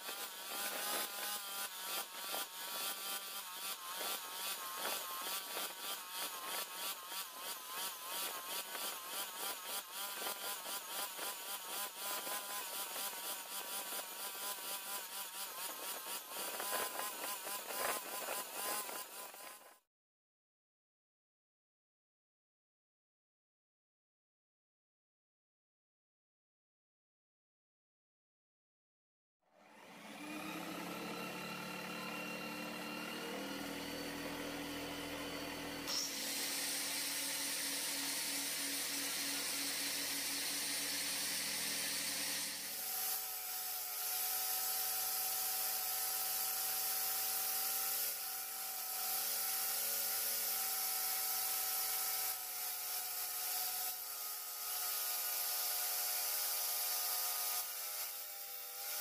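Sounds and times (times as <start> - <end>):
angle grinder motor whine: 0.0 - 19.8, 29.6 - 59.0.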